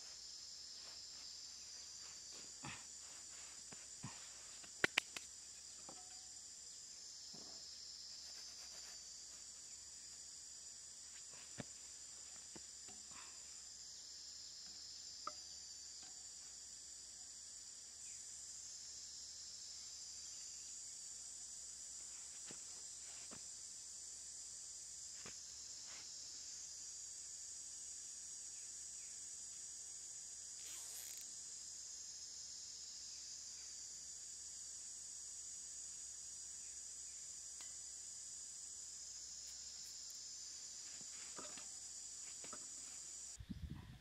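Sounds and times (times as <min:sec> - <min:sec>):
chorus of insects: 0:00.0 - 0:44.0.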